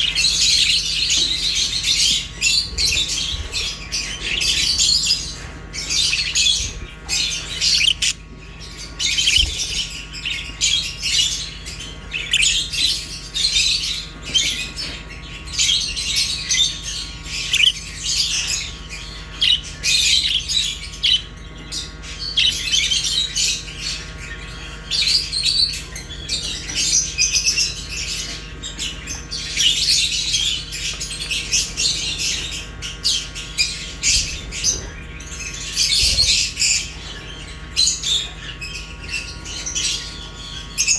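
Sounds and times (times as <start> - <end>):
small parrots chirping and squawking: 0.0 - 40.9.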